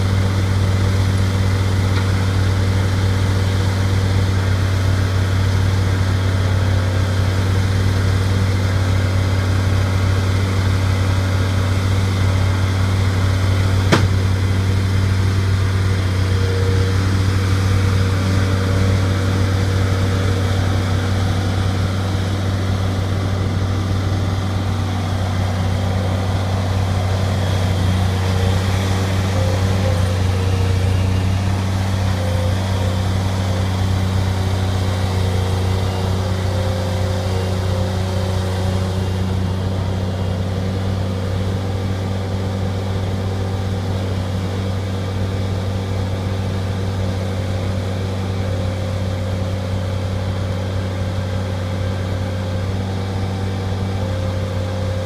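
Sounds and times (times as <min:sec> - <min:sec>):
skid steer loader engine running: 0:00.0 - 0:55.0.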